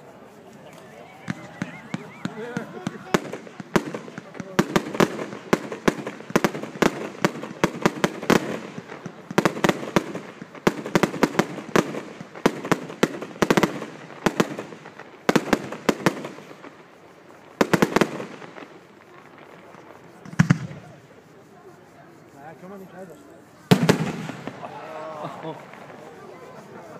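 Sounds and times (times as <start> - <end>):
fireworks bursting with bangs: 0.0 - 26.9
fireworks crackle: 0.0 - 26.9.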